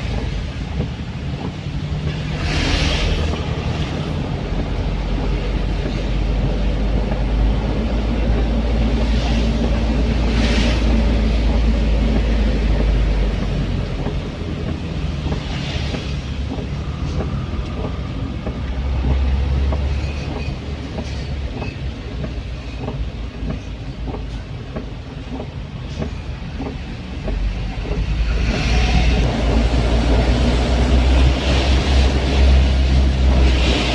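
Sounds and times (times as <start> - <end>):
vehicle interior low rumble: 0.0 - 33.9.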